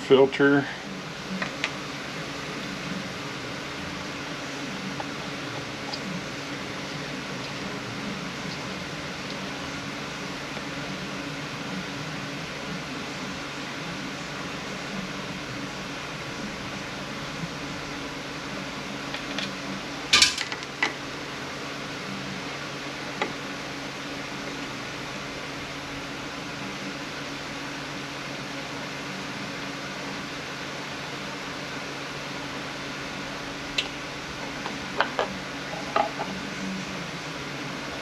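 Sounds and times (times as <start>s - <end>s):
fan humming: 0.0s - 38.0s.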